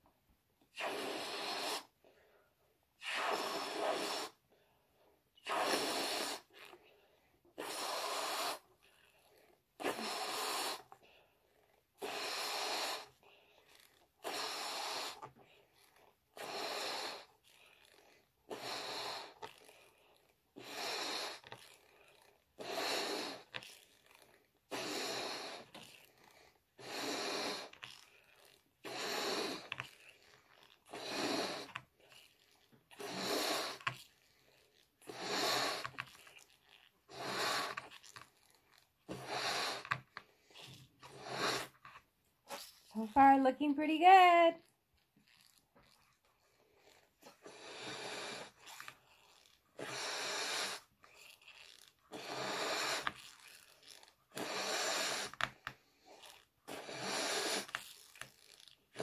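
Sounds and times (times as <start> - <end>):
person blowing up a balloon: 0.7 - 2.1, 3.0 - 4.5, 5.4 - 6.9, 7.5 - 11.0, 11.6 - 59.0.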